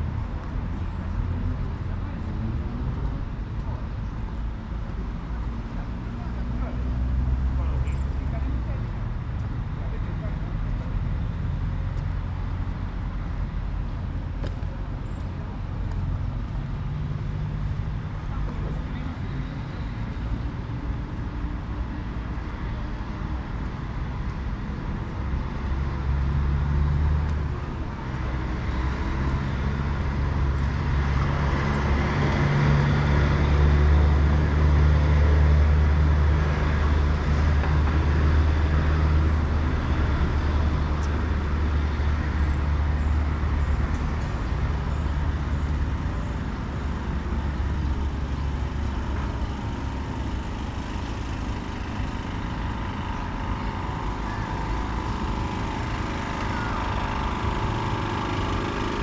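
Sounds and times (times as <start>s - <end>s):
road noise: 0.0s - 59.0s
vehicle engine hum: 0.0s - 59.0s.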